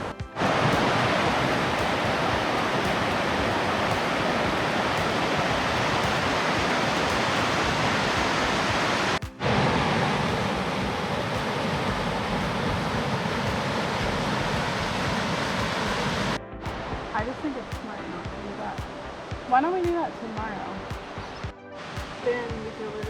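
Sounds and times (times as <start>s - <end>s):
river rushing over boulders: 0.0s - 23.0s.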